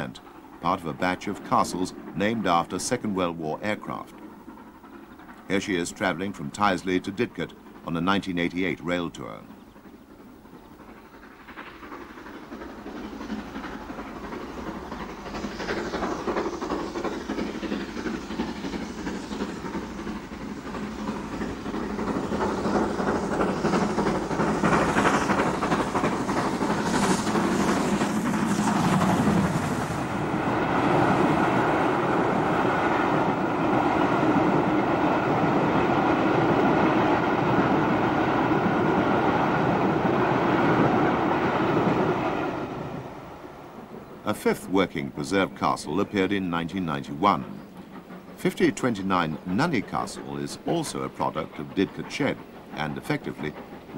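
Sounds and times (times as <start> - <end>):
steam locomotive passing: 0.0 - 53.9
train coaches rumbling: 0.0 - 53.9.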